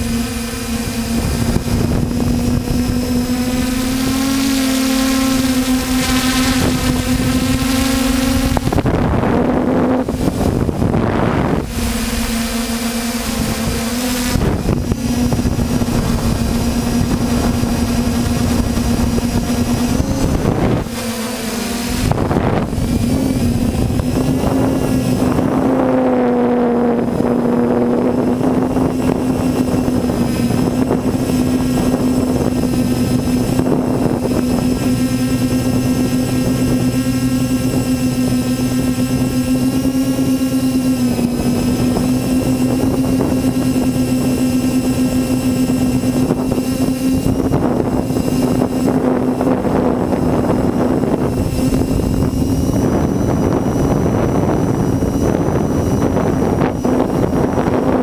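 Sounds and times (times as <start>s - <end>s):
drone propellers humming: 0.0s - 58.0s
wind hiss: 0.0s - 58.0s.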